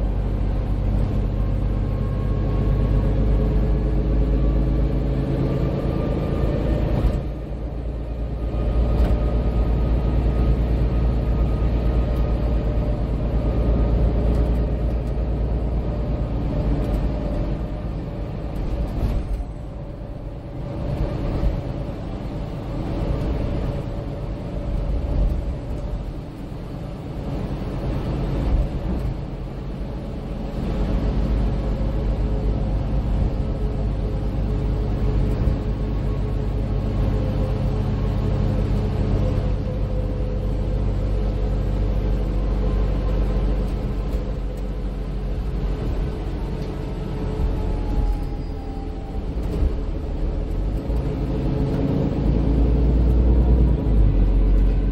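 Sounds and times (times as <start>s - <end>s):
bus diesel engine drone: 0.0s - 54.9s
road rumble: 0.0s - 54.9s.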